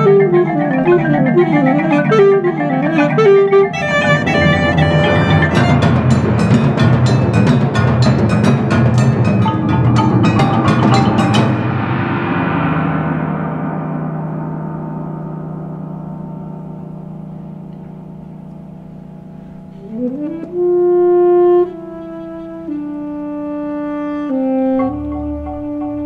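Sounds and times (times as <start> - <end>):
percussion ensemble playing: 0.0 - 26.0.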